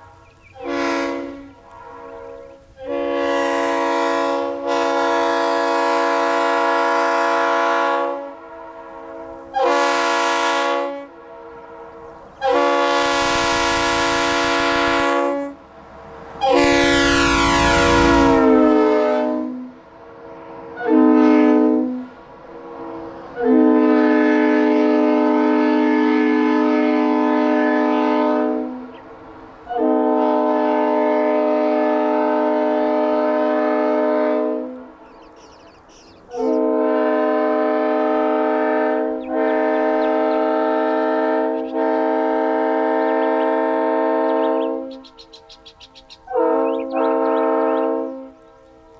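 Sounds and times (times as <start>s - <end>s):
locomotive air horn chord: 0.0s - 15.6s, 16.4s - 48.9s.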